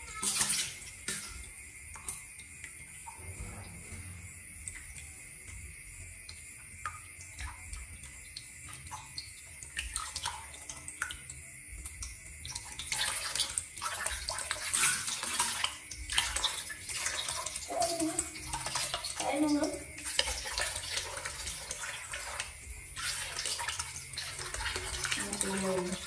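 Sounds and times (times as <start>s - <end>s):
water pouring from a bowl: 0.0s - 26.0s
water splashing into a basin: 0.0s - 26.0s.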